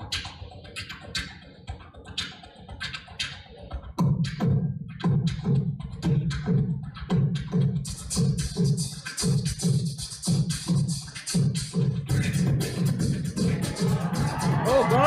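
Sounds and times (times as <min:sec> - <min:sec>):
beatboxed clicks: 0:00.0 - 0:15.0
beatboxed hi-hat ticks: 0:00.0 - 0:15.0
beatboxed kicks: 0:00.0 - 0:15.0.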